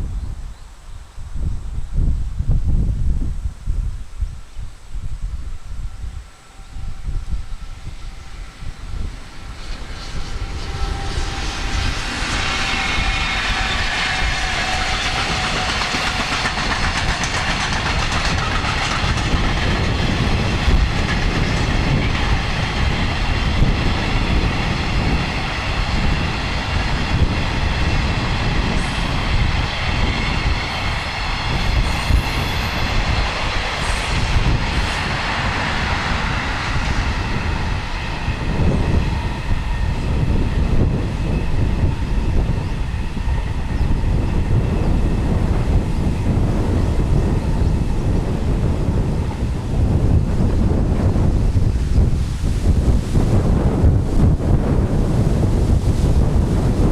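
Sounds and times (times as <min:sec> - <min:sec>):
freight train wheels rumbling: 0:02.0 - 0:56.9.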